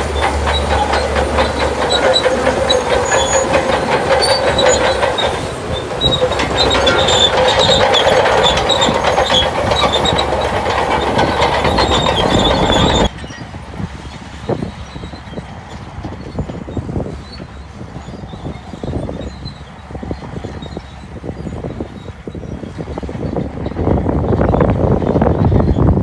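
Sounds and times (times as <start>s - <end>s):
bulldozer engine running: 0.0s - 26.0s
steel tracks clanking and squealing: 0.0s - 26.0s.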